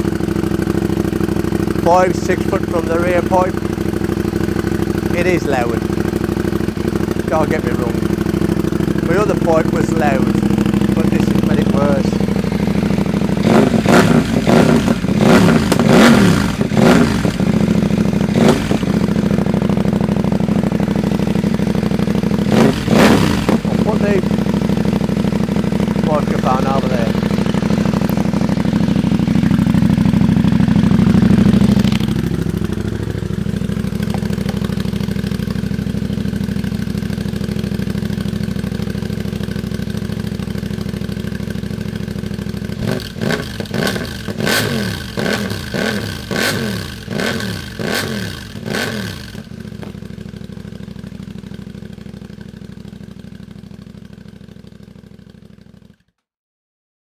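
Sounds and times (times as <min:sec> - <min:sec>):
motorcycle engine revving and idling: 0:00.0 - 0:56.1.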